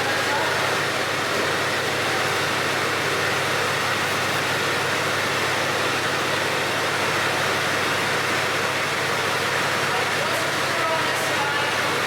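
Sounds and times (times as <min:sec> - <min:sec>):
engine and road noise hiss: 0:00.0 - 0:12.0.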